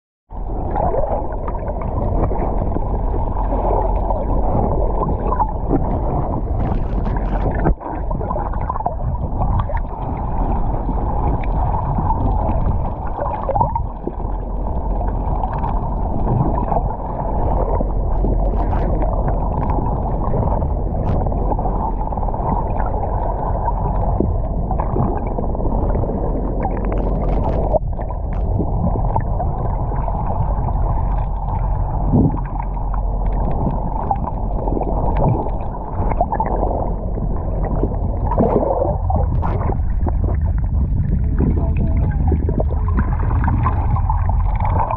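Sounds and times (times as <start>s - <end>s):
muffled underwater rushing water: 0.3s - 44.9s.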